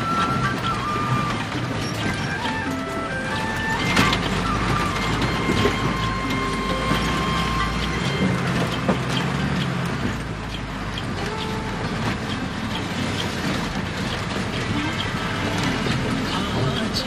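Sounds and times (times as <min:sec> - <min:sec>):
engine and road rumble: 0:00.0 - 0:17.0
knocks and rattles: 0:00.0 - 0:17.0.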